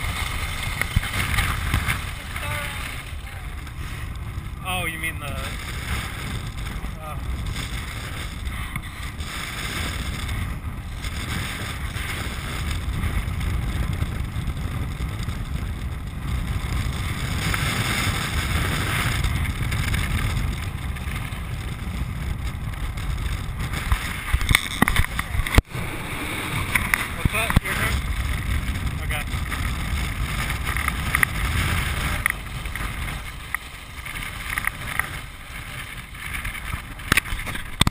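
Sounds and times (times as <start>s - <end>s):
wind and rolling rumble: 0.0s - 37.9s.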